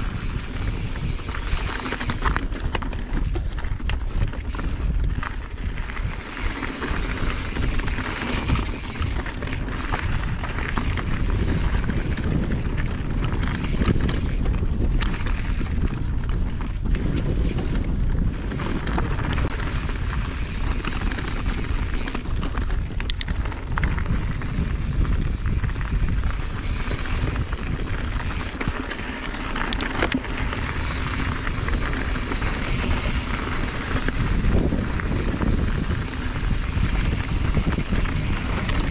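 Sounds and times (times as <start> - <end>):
bike clicks and rattles: 0.0 - 38.9
tyres crunching over gravel: 0.0 - 38.9
wind rumbling on microphone: 0.0 - 38.9.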